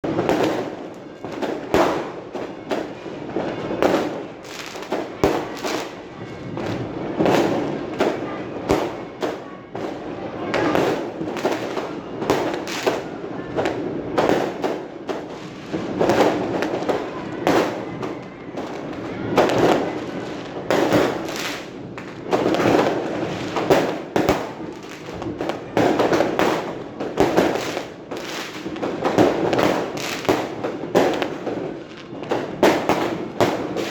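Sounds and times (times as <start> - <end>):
fireworks exploding: 0.0 - 33.9.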